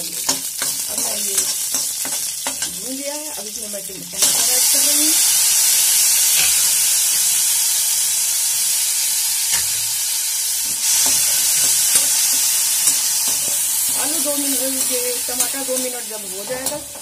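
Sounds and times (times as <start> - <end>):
tomatoes sizzling in a pan: 0.0 - 17.0.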